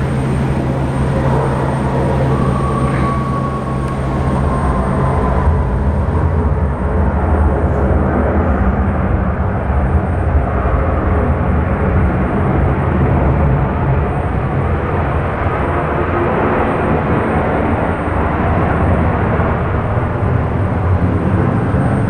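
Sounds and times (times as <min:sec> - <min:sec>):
aircraft engines rumbling: 0:00.0 - 0:22.0.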